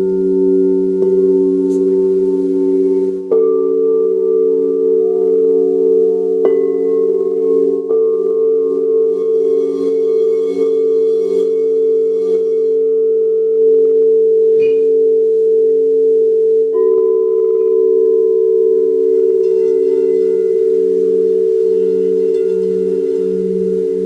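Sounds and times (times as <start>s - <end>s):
singing bowls ringing: 0.0s - 24.0s.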